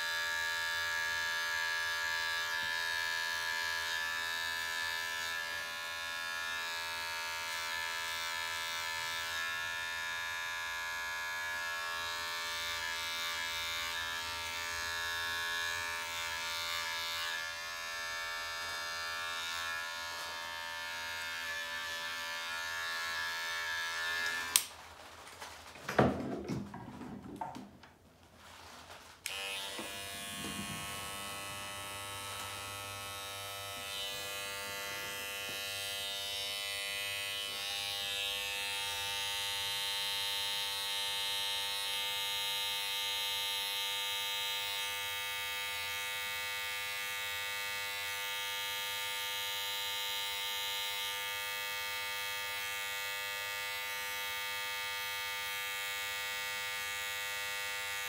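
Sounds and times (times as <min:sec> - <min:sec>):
hair trimmer buzzing: 0:00.0 - 0:24.8, 0:29.2 - 0:58.0.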